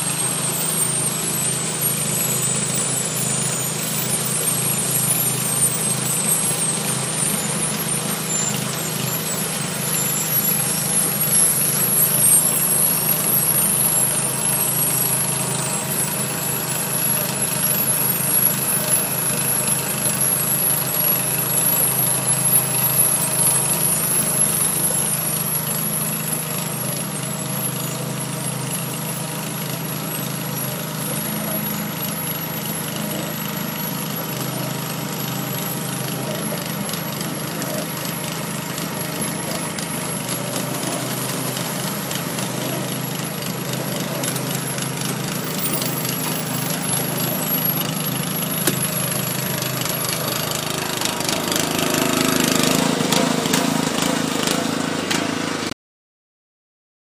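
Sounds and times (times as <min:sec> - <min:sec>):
engine and conveyor droning: 0:00.0 - 0:55.7.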